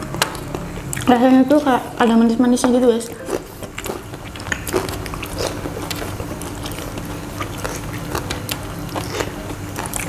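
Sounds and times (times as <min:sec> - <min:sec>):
biting and chewing fried chicken: 0:00.0 - 0:10.0.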